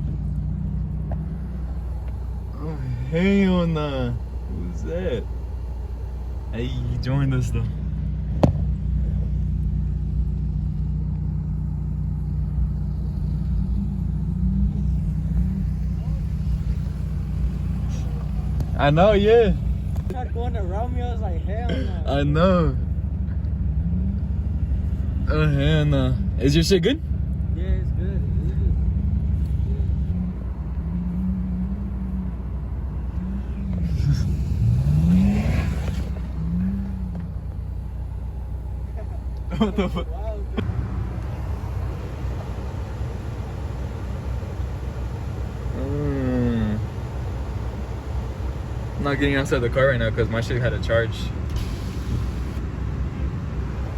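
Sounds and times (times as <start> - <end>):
car engine droning: 0.0 - 53.9.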